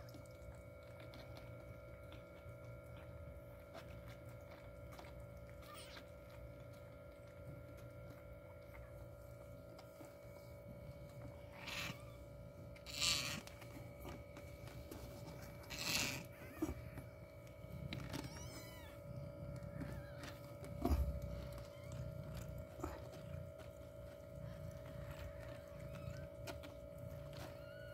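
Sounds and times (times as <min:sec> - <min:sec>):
cat purring: 0:00.0 - 0:27.9.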